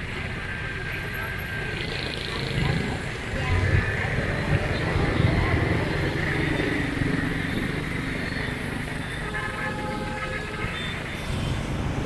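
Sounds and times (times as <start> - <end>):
motorbike engines running: 0.0 - 12.0.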